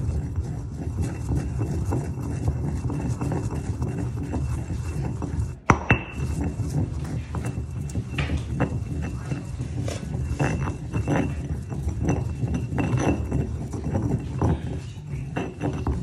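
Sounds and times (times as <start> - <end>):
stone pestle grinding in mortar: 0.0 - 16.0.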